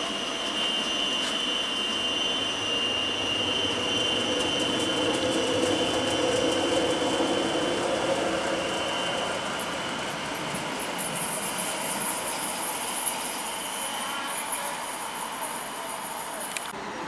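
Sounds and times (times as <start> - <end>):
electric train high whine: 0.0 - 17.0
train running hum: 0.0 - 17.0.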